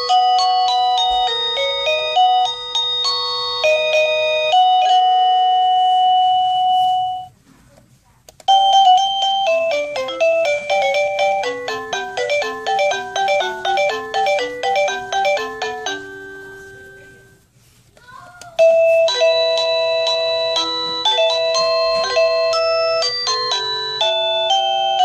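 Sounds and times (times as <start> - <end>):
doorbell electronic chime tunes: 0.0 - 7.3, 8.5 - 17.4, 18.6 - 25.0.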